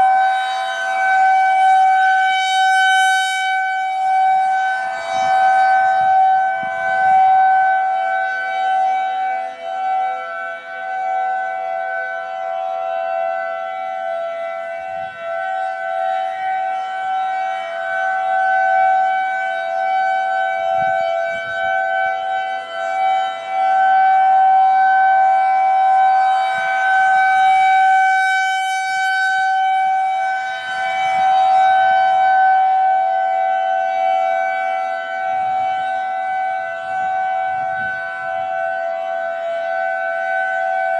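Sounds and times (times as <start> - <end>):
outdoor warning siren steady tone: 0.0 - 40.9.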